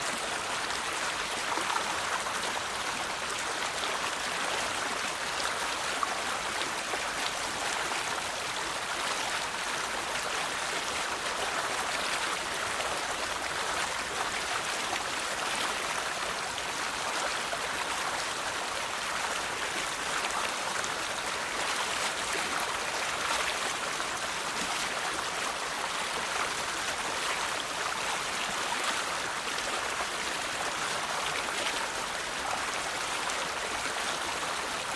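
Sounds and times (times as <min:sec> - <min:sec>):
river flowing over stones: 0:00.0 - 0:34.9.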